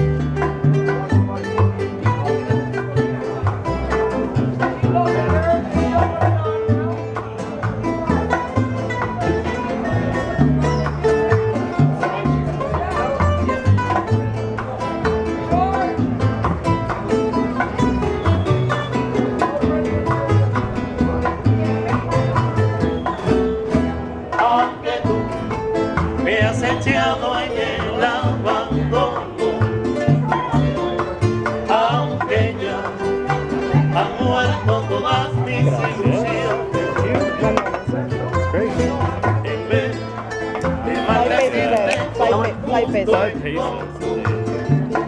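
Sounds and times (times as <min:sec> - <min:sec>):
acoustic guitar: 0:00.0 - 0:45.0
bass line: 0:00.0 - 0:45.0
bongos: 0:00.0 - 0:45.0
tres picking melody: 0:00.0 - 0:45.0.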